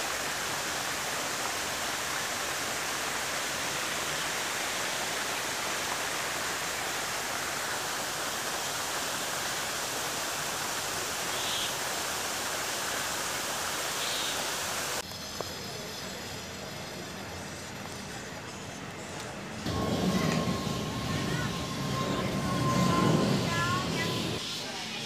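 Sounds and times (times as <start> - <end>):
fountain water spraying: 0.0 - 25.0
outdoor background noise: 0.0 - 25.0.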